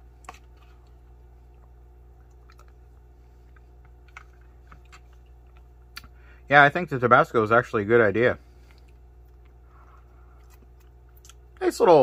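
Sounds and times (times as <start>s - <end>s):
soft eating sounds: 0.0s - 6.4s, 8.4s - 11.6s
steady low hum: 0.0s - 12.0s.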